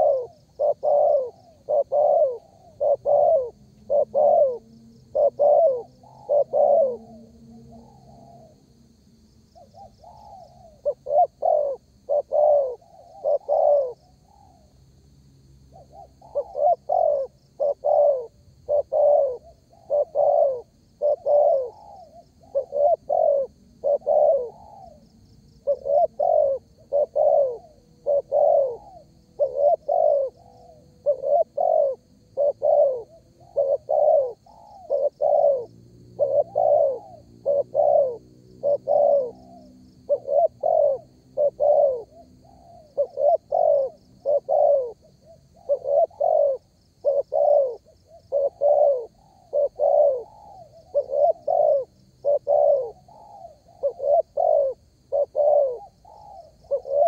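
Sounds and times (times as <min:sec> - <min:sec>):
dove cooing: 0:00.0 - 0:14.8, 0:15.7 - 0:57.0.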